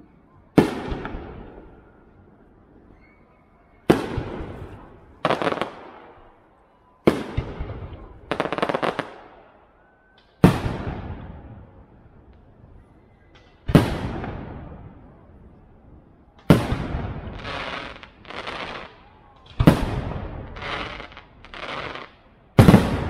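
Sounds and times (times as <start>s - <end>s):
crackling firework stars: 0.5s - 3.0s, 3.8s - 23.0s.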